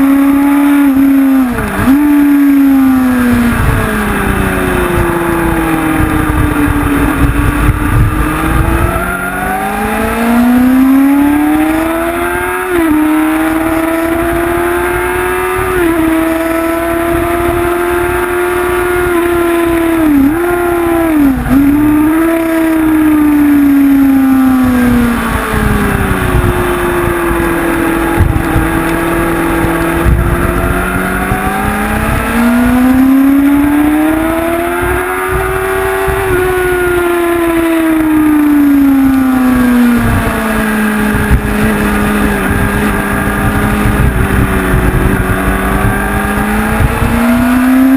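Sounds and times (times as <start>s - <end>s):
motorcycle engine revving: 0.0s - 47.9s
wind rumbling on microphone: 0.0s - 47.9s.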